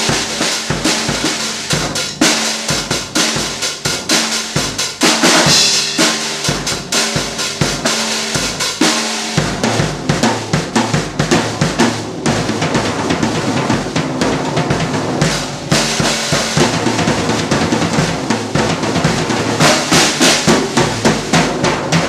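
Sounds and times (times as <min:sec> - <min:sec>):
drum kit beat: 0:00.0 - 0:22.0.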